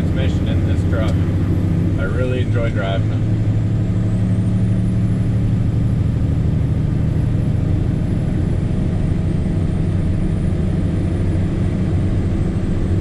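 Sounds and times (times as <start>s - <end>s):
diesel truck engine drone: 0.0s - 13.0s.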